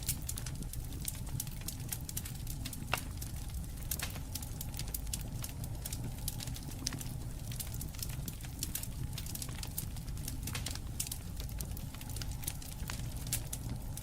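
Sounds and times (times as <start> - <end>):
campfire crackling and popping: 0.0 - 14.0
low rumble of flame: 0.0 - 14.0.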